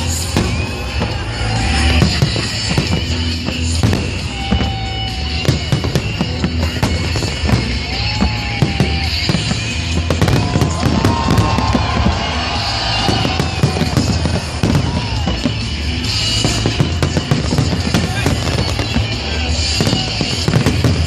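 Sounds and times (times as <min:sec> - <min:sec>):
fireworks bangs and crackling: 0:00.0 - 0:21.0
music playing: 0:00.0 - 0:21.0
whistling fireworks: 0:00.0 - 0:21.0.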